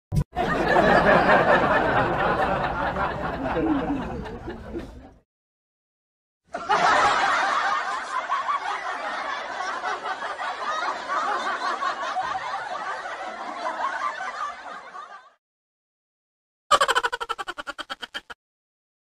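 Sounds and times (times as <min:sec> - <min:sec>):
many voices laughing: 0:00.4 - 0:05.2, 0:06.5 - 0:15.4, 0:16.7 - 0:18.4.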